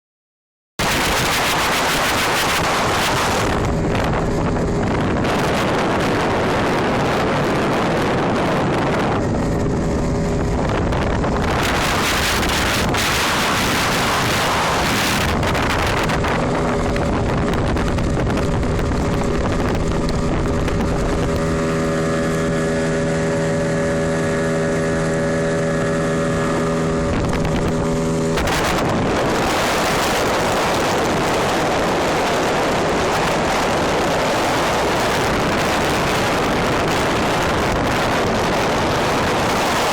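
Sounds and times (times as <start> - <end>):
outboard motor running: 0.8 - 39.9
wind on microphone: 0.8 - 39.9.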